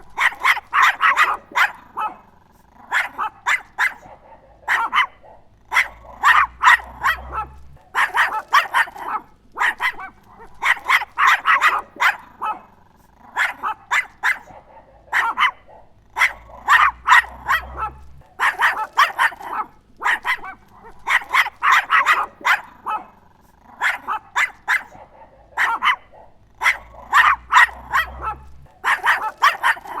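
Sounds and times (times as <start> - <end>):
small dog barking: 0.0 - 30.0.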